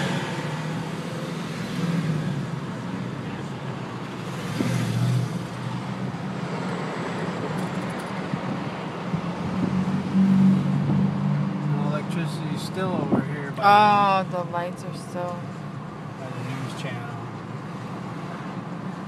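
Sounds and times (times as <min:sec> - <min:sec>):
car engine and road noise: 0:00.0 - 0:19.0
surrounding traffic: 0:00.0 - 0:19.0.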